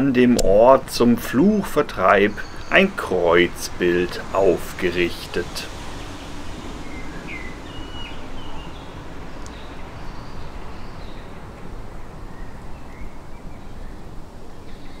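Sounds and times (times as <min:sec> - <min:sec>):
low rush of outdoor noise: 0:00.0 - 0:15.0
faint bird chirps: 0:02.0 - 0:05.1, 0:05.8 - 0:15.0.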